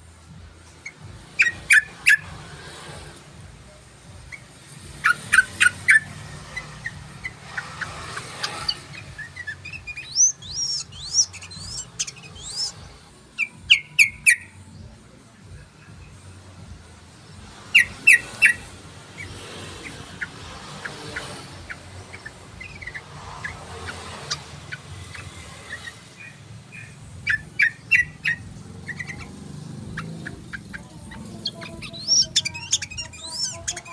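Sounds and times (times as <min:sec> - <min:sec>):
bird chirping: 0:00.6 - 0:33.9.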